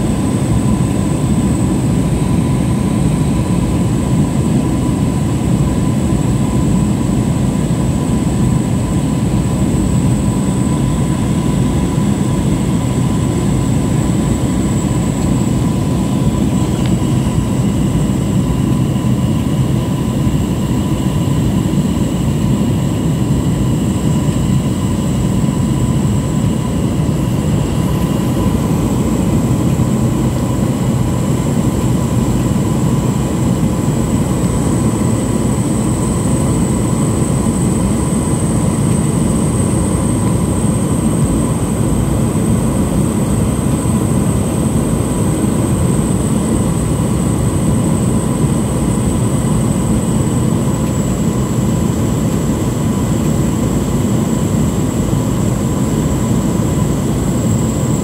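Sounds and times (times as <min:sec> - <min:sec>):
light plane engine drone: 0:00.0 - 0:58.0.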